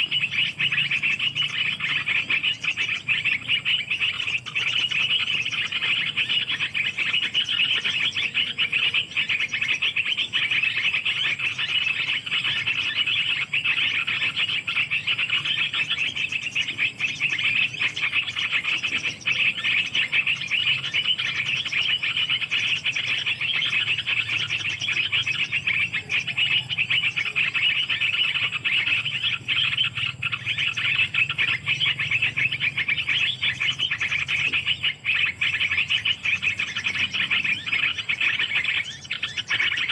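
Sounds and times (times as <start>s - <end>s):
animal chorus pulsing buzz: 0.0s - 39.9s.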